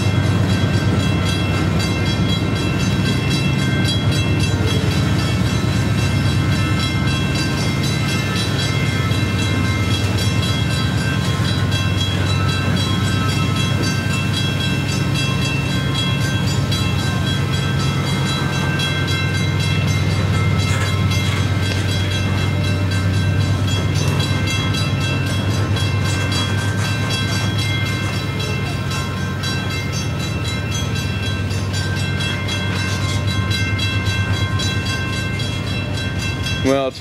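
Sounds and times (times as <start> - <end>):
train cars rumbling: 0.0 - 37.0.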